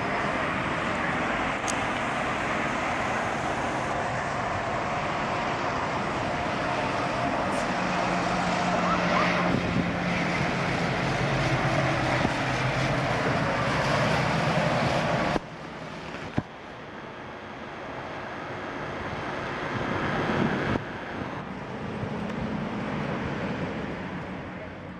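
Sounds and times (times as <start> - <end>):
street traffic noise: 0.0 - 24.9
tram humming: 0.0 - 24.9.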